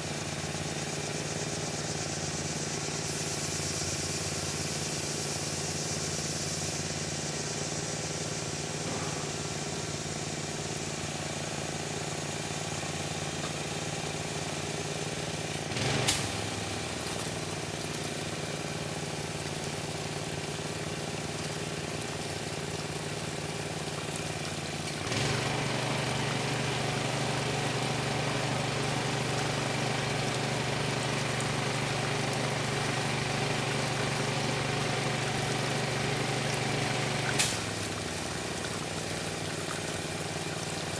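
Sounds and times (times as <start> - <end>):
pressure washer engine running: 0.0 - 40.9
hiss: 0.9 - 12.9, 15.7 - 40.9.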